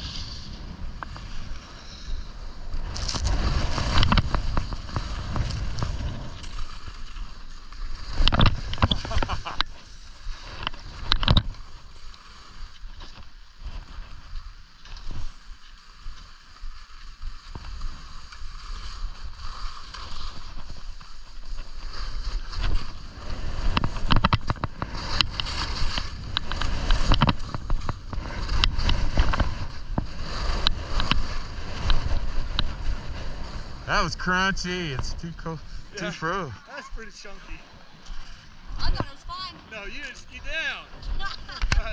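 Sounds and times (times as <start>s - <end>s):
skis scraping over hard snow: 0.0s - 41.9s.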